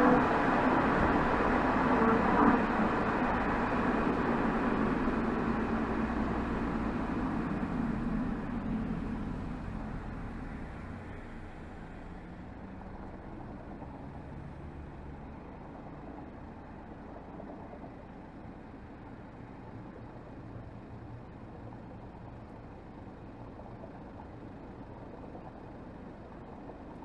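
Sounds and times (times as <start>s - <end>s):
car exhaust and road noise: 0.0s - 26.9s.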